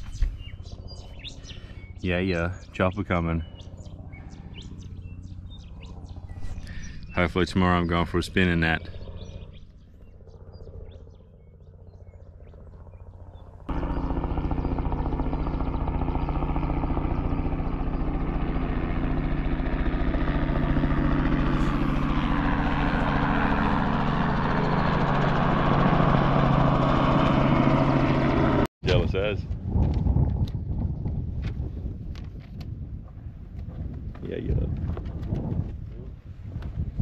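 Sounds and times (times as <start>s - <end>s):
helicopter flying overhead: 0.0s - 37.0s.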